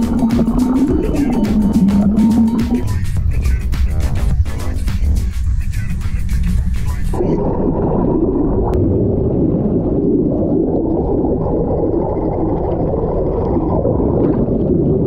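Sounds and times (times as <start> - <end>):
muffled underwater water rushing: 0.0 - 4.8, 5.4 - 15.0.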